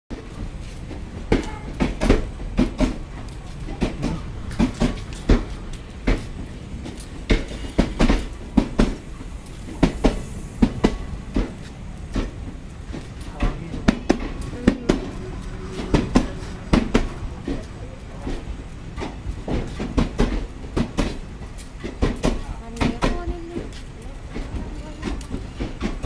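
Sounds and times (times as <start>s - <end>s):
low train rumble: 0.1s - 26.0s
train wheels clattering over rail joints: 0.1s - 26.0s.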